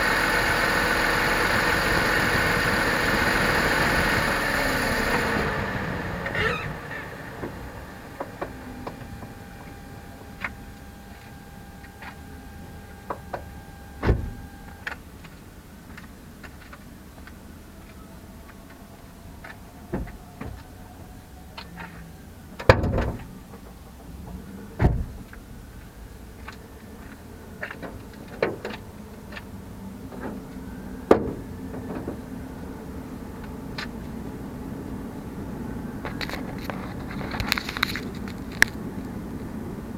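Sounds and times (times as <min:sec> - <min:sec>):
car engine whining: 0:00.0 - 0:39.9.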